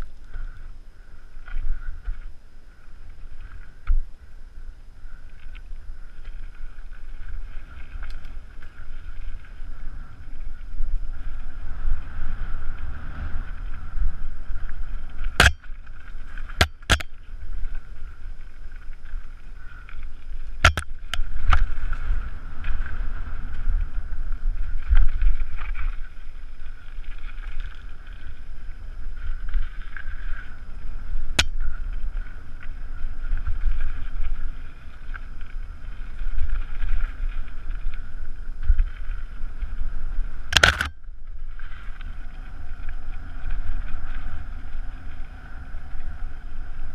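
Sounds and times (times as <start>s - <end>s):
tyres and wind rumble: 7.4s - 19.3s, 20.4s - 46.9s.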